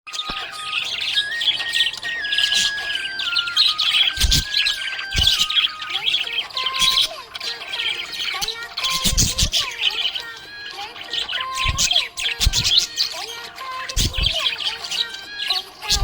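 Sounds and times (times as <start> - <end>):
budgie chirping and warbling: 0.1 - 16.0.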